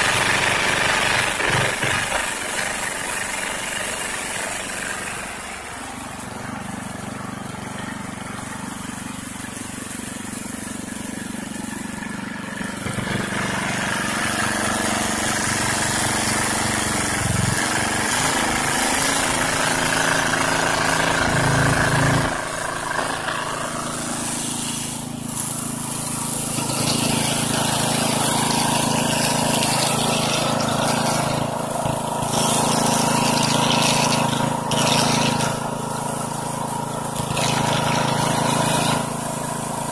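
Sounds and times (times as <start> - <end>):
water pump engine running: 0.0 - 39.9.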